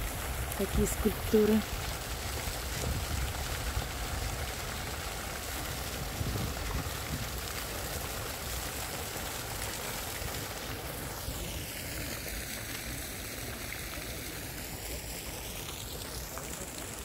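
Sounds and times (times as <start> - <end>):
fountain splashing into basin: 0.0 - 17.0.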